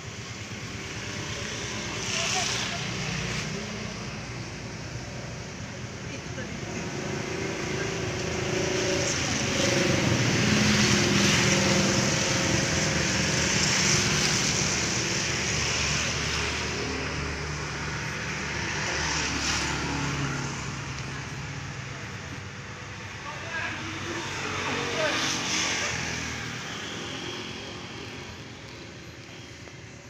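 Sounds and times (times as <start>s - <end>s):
vehicle passing by: 0.5s - 30.0s.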